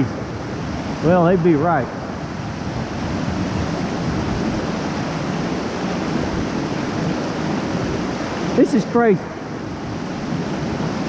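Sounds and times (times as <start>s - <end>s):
flowing creek water: 0.0s - 11.0s
wind buffeting microphone: 0.0s - 11.0s.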